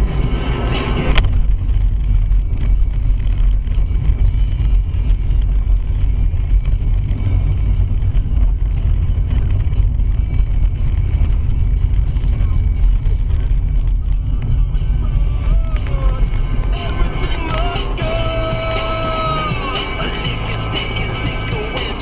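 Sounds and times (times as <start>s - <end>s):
car interior road and engine noise: 0.0s - 22.0s.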